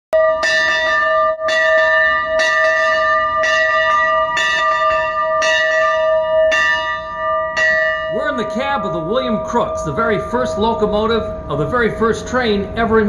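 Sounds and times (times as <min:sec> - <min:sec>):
steam locomotive bell ringing: 0:00.2 - 0:13.0.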